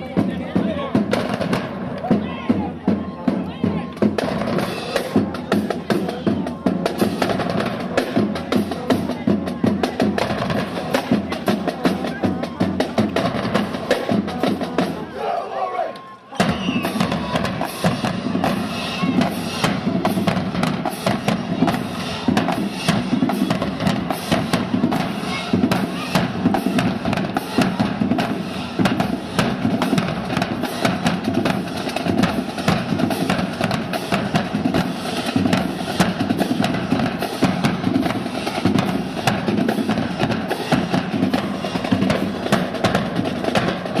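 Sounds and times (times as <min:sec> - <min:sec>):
marching drumline: 0:00.0 - 0:44.0.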